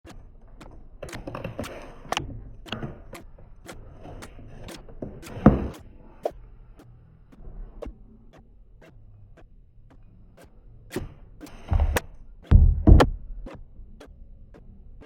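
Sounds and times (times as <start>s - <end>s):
sharp clicks and knocks: 0.0s - 15.0s.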